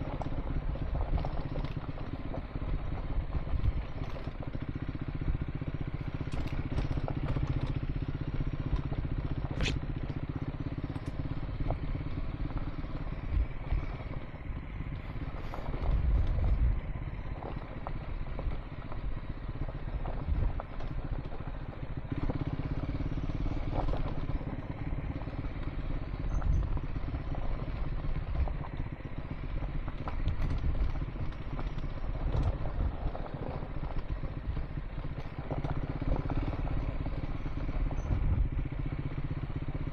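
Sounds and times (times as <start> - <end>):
motorcycle engine running: 0.0 - 39.9
motorcycle knocking and clattering: 0.0 - 39.9.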